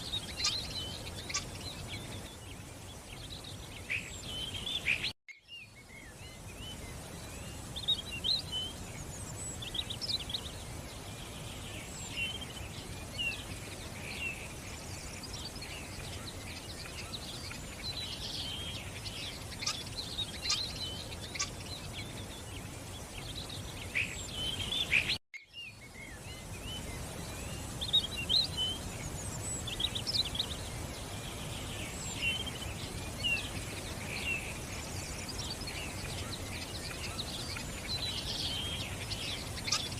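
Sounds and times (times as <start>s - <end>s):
outdoor background noise: 0.0s - 39.9s
small birds chirping and singing: 0.0s - 39.9s.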